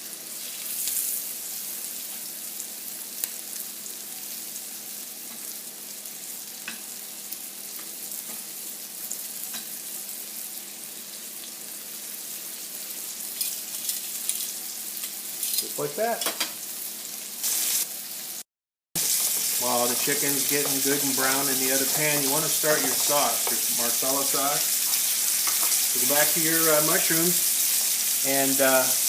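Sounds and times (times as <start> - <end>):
chicken frying sizzle with pops: 0.0 - 29.0.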